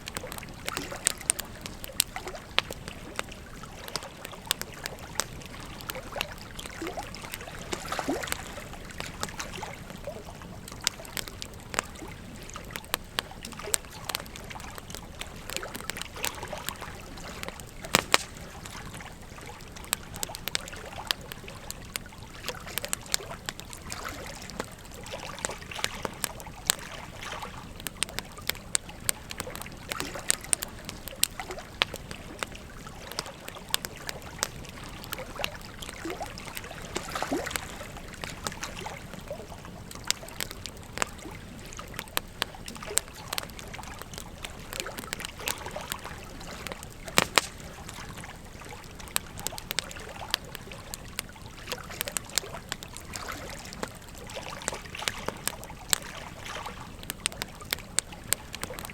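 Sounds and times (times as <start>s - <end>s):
bonfire crackling and popping: 0.0s - 58.9s
flowing river: 0.0s - 58.9s.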